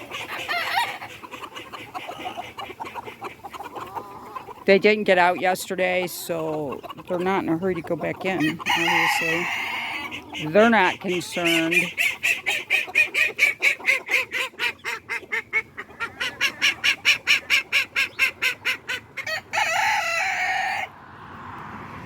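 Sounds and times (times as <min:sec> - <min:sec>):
poultry calling: 0:00.0 - 0:20.9.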